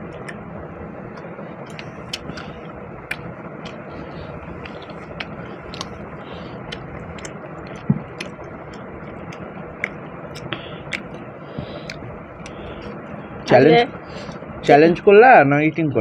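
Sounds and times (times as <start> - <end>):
people chewing food: 0.0 - 13.2
steady background hiss: 0.0 - 16.0.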